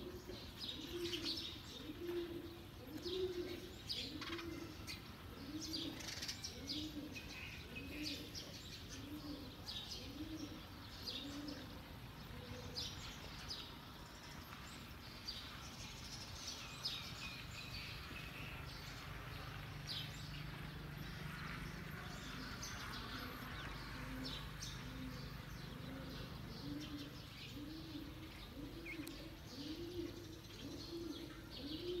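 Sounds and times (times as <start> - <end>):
doves cooing: 0.0 - 14.5, 17.8 - 32.0
small birds chirping: 0.0 - 32.0.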